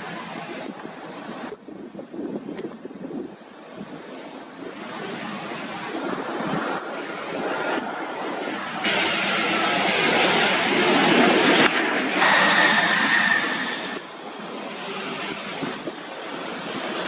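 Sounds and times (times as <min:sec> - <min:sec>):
airliner engines rushing: 0:00.0 - 0:01.6, 0:02.5 - 0:17.0.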